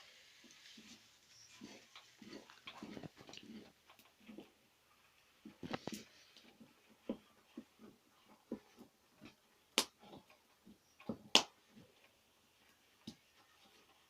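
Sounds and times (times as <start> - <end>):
wooden stick stirring thick porridge: 0.0 - 14.0.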